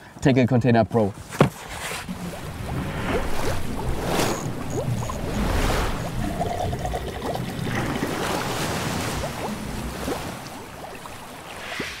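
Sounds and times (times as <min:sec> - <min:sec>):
water bubbling and sloshing: 0:01.5 - 0:12.0
short rising bubble blips: 0:02.1 - 0:12.0.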